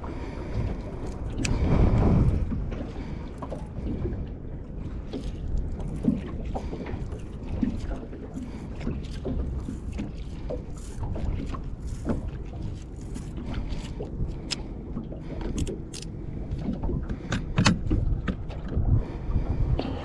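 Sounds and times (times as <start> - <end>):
water sloshing against boat hull: 0.0 - 20.0
wind on microphone: 0.0 - 20.0.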